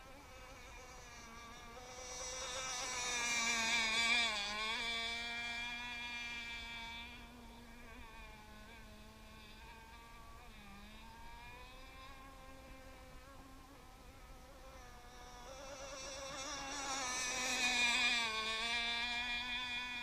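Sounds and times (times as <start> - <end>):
model boat engine buzzing: 0.0 - 20.0.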